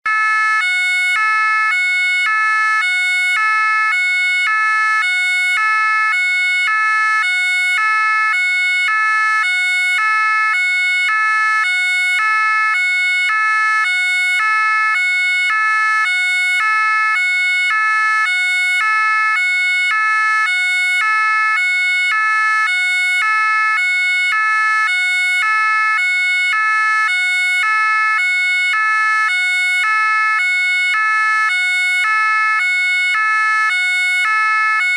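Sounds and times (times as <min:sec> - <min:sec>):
two-tone siren: 0:00.0 - 0:34.9.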